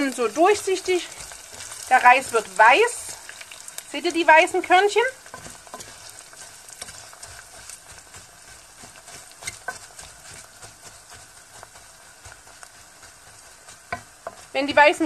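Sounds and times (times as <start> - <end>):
rice sizzling in hot oil: 0.0 - 15.0
wooden spoon stirring rice: 0.0 - 15.0.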